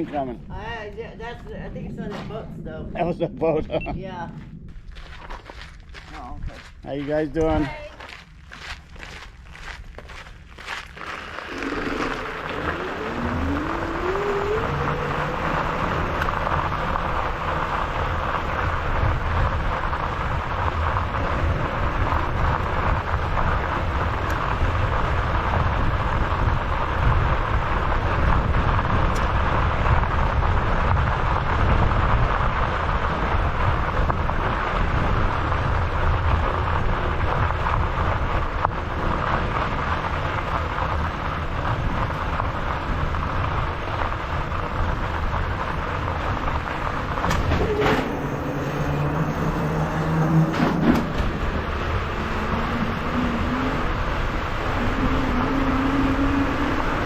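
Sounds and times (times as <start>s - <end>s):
wind rushing over microphone: 0.0s - 8.5s, 9.4s - 57.0s
low riding rumble: 0.0s - 57.0s.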